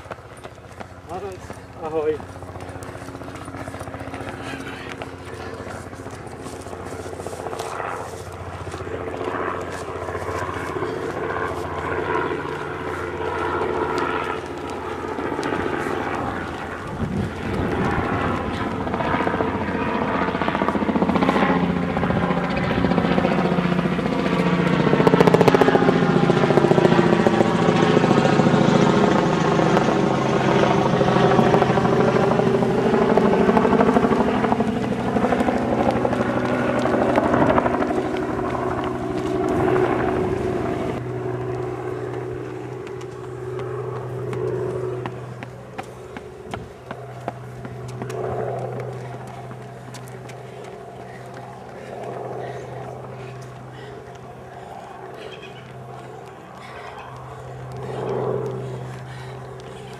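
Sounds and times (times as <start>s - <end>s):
aircraft engine drone overhead: 0.0s - 59.9s.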